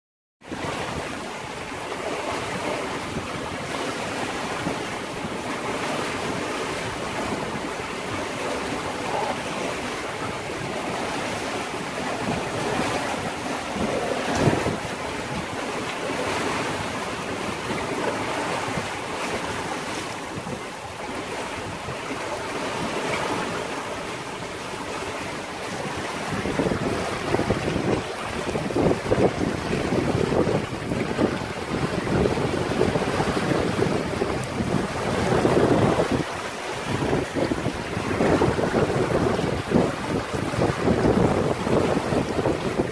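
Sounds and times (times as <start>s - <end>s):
sea rushing past yacht: 0.4s - 42.9s
wind: 0.4s - 42.9s
wind buffeting microphone: 0.4s - 42.9s.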